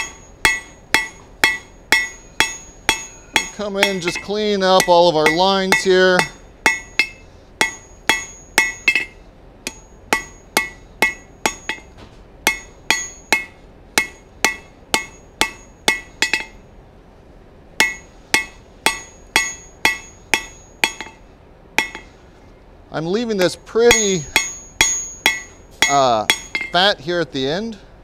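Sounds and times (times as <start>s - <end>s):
hammer striking metal on anvil: 0.0s - 16.6s, 17.8s - 21.2s, 21.8s - 22.2s, 23.4s - 26.9s.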